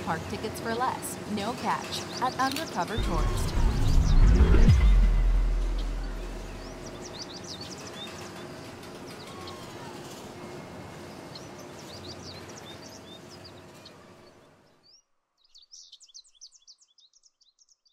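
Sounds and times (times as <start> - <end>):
birds chirping: 0.0 - 17.9
outdoor background noise: 0.0 - 17.9.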